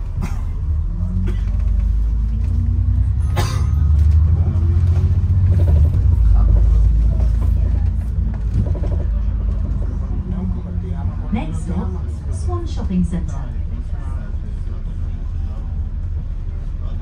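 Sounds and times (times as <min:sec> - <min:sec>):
bus engine and tyres rumbling: 0:00.0 - 0:17.0.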